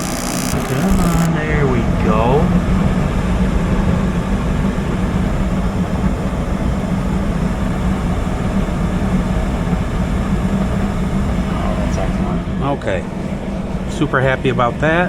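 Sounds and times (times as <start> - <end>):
gas furnace burner rushing: 0.0 - 15.0.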